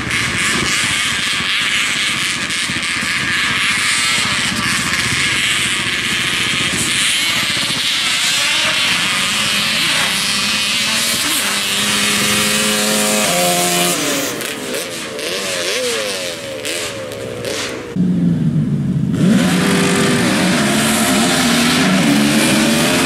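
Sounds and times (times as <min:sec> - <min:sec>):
atv engines at full throttle: 0:00.0 - 0:23.0.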